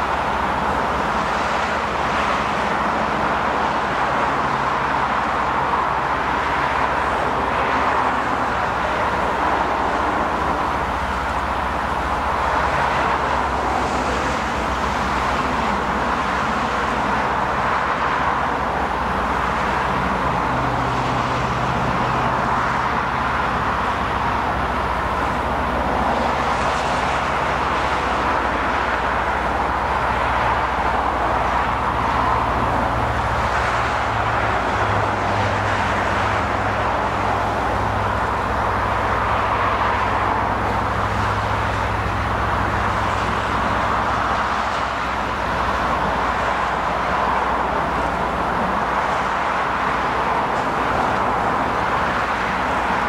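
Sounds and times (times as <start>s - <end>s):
diesel locomotive engine hum: 0.0s - 53.0s
freight train rolling by: 0.0s - 53.0s
highway traffic: 0.0s - 53.0s.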